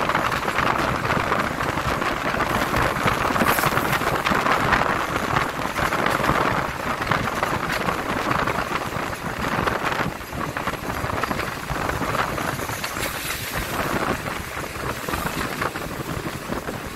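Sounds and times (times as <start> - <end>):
train wheels rushing on rails: 0.0 - 16.9
wind on microphone: 0.0 - 16.9.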